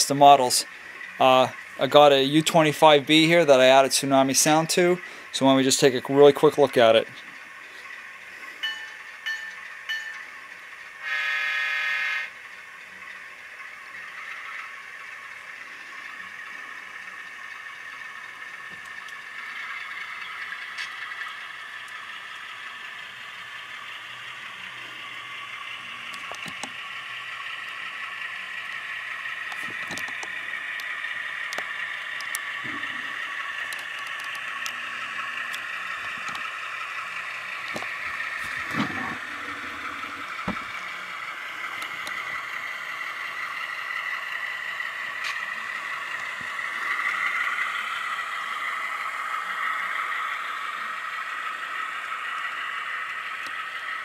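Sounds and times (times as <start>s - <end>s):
diesel engine sound through small speaker: 0.0s - 54.0s.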